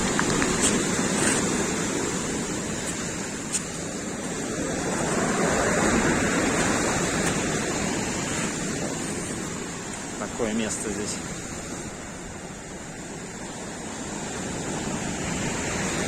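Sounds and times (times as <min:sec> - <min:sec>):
surf breaking on the shore: 0:00.0 - 0:16.0.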